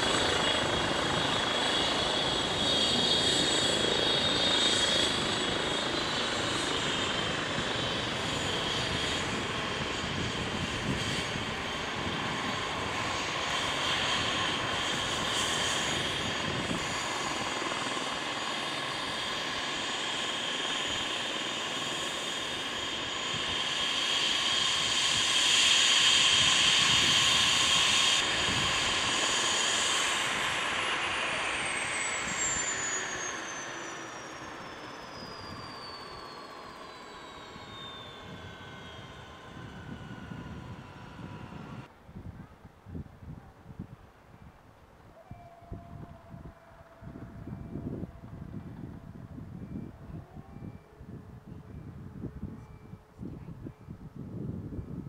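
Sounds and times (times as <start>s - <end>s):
helicopter engine and rotor noise: 0.0s - 55.0s
helicopter turbine whine: 0.0s - 55.0s.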